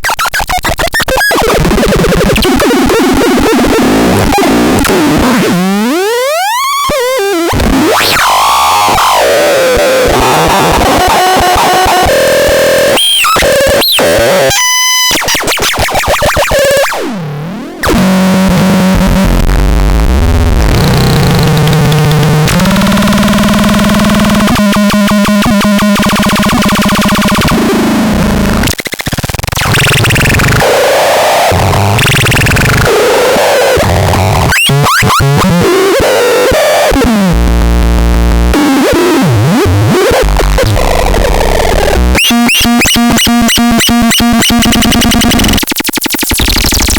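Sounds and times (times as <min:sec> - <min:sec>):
harsh synthesizer noise: 0:00.3 - 0:46.9.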